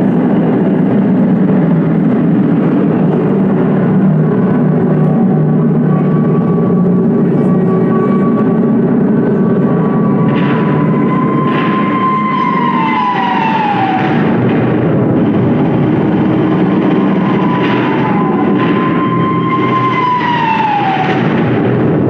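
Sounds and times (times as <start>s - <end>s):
air-raid siren wailing: 0.0s - 22.0s
low rumble: 0.0s - 22.0s.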